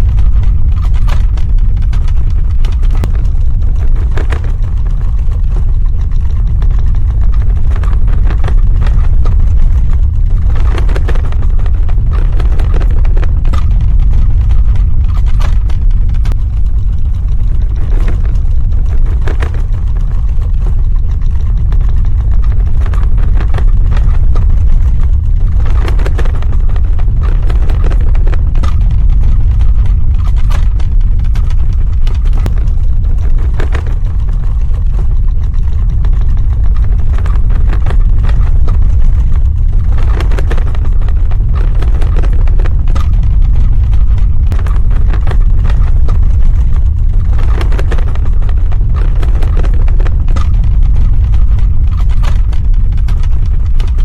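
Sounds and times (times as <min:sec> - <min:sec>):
crackling and rattling: 0:00.0 - 0:54.0
deep rumble: 0:00.0 - 0:54.0.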